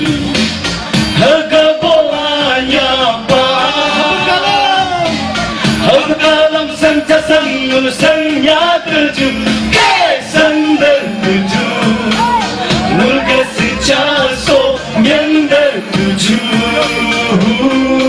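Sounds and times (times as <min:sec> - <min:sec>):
amplified backing music: 0:00.0 - 0:18.0
men singing in unison: 0:01.1 - 0:18.0.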